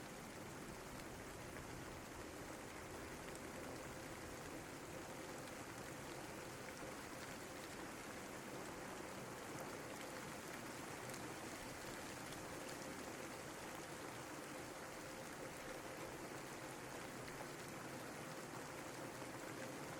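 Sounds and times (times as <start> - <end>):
faint steady hum: 0.0 - 19.9
steady rainfall: 0.0 - 19.9.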